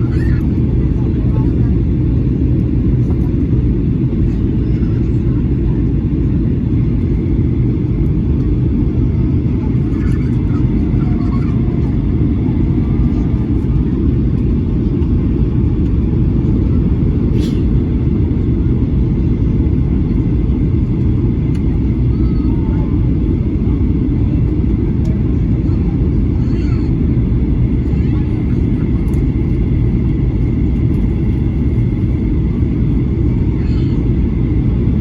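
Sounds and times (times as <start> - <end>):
jet engines and airflow rumble: 0.0 - 35.0.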